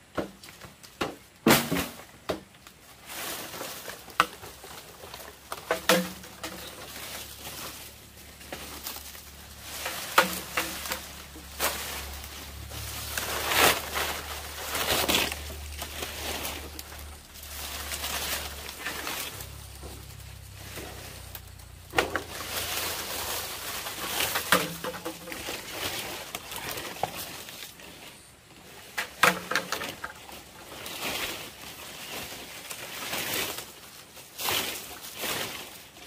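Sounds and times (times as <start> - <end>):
rustling: 0.0 - 36.0
low steady hum: 1.3 - 36.0.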